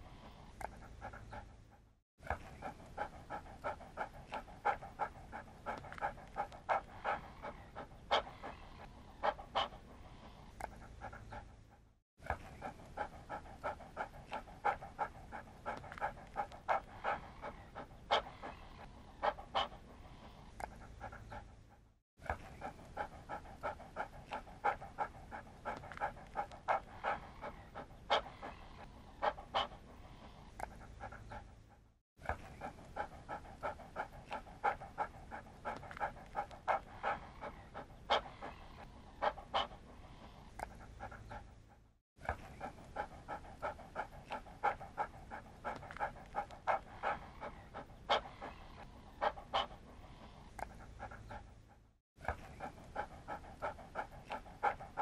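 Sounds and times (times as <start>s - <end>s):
dog panting: 0.0s - 55.0s.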